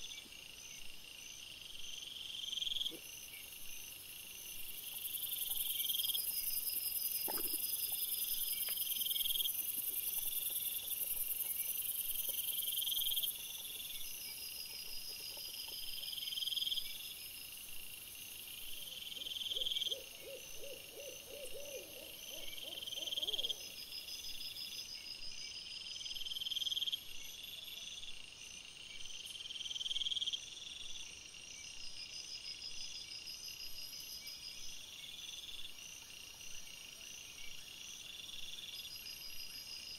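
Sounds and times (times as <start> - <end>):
insects chirping: 0.0 - 39.9
low pulsing insect calls: 0.0 - 39.9.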